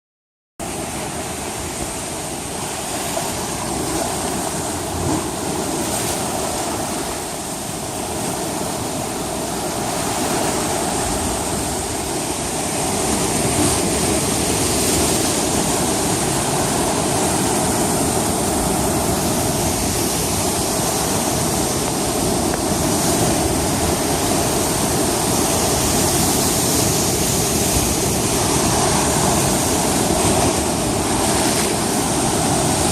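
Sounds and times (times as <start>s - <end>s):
sea waves breaking: 0.6s - 32.9s.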